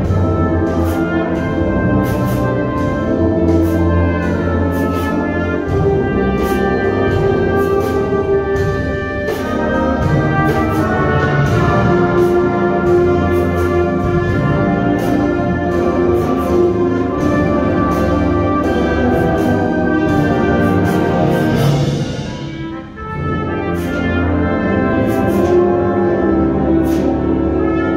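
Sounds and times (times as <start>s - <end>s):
sharp percussion strokes: 0.0s - 27.2s
brass sustaining chords: 0.0s - 27.9s.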